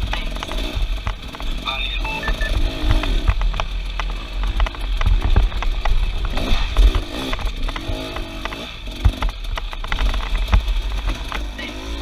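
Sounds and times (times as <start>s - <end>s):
engine revving: 0.0s - 12.0s
knocks and clatter: 0.0s - 12.0s.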